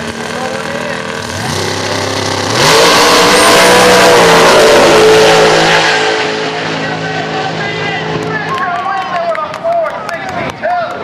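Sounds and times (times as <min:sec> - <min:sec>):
drag car engines revving: 0:00.0 - 0:11.0.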